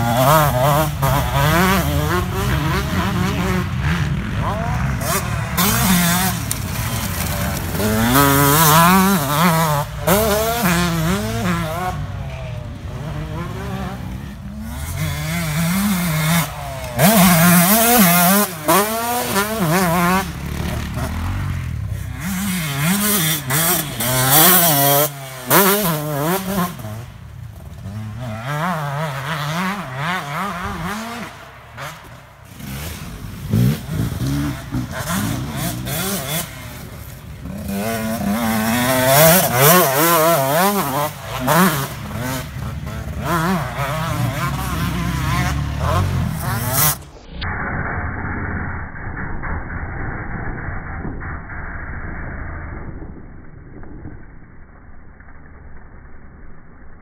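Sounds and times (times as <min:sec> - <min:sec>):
motorbike engine revving: 0:00.0 - 0:51.8.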